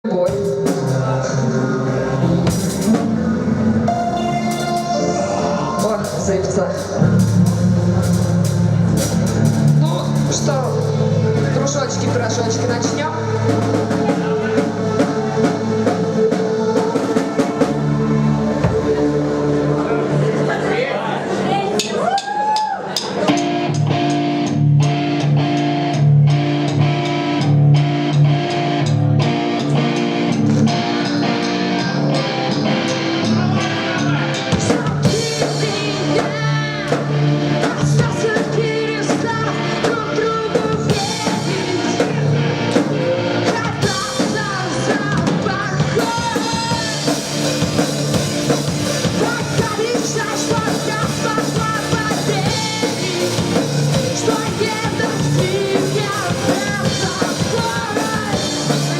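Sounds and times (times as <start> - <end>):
person singing: 0.0 - 23.7, 29.8 - 58.9
live rock band playing: 0.0 - 58.9.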